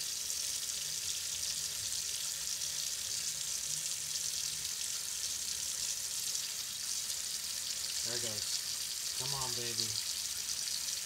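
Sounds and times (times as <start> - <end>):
tap water running into steel sink: 0.0 - 11.0.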